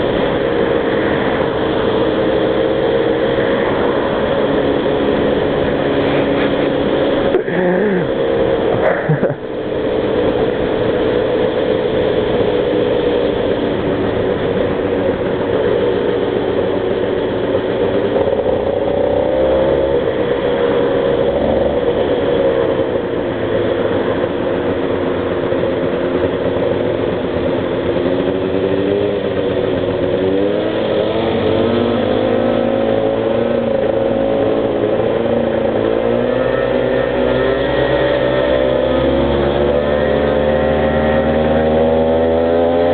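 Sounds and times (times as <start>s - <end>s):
two-stroke bike engine revving: 0.0s - 42.9s.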